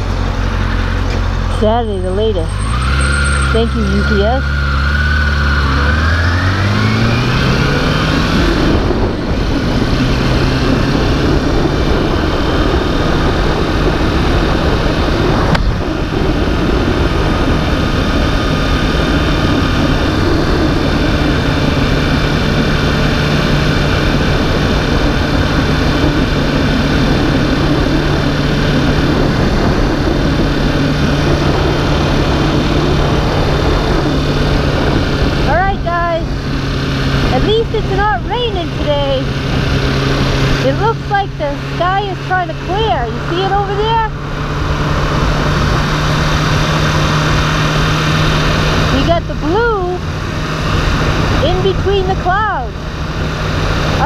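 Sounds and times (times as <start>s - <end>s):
backhoe engine revving: 0.0s - 54.0s.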